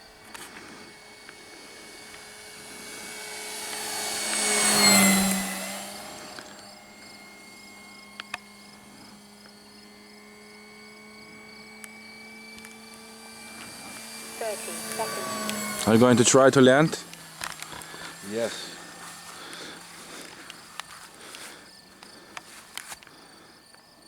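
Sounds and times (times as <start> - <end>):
model plane motor whine: 0.0 - 24.0.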